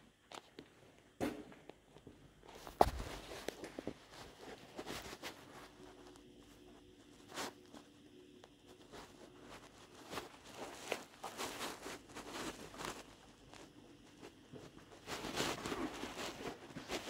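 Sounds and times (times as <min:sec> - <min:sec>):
faint steady hum: 0:00.0 - 0:17.0
quiet footsteps: 0:00.0 - 0:17.0
rustling: 0:02.4 - 0:17.0.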